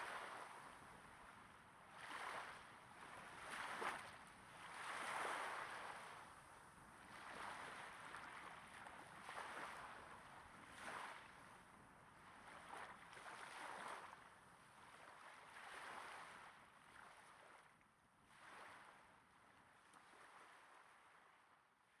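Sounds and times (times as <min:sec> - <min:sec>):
small waves breaking on sand: 0:00.0 - 0:17.7, 0:18.3 - 0:21.5.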